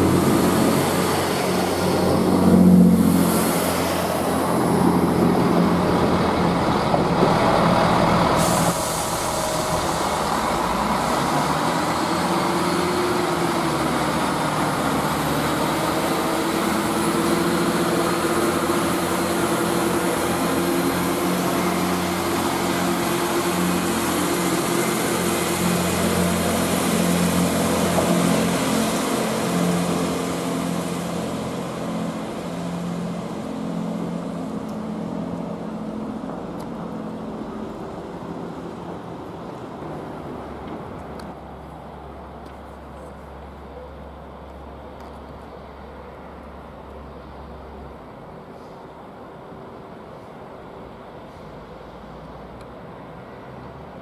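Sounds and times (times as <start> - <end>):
diesel train engines running: 0.0 - 54.0.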